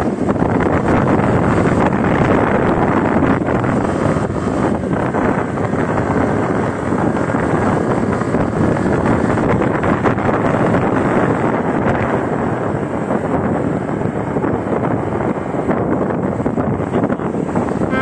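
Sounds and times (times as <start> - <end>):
motorcycle engine and road noise: 0.0 - 18.0
wind rushing on microphone: 0.0 - 18.0.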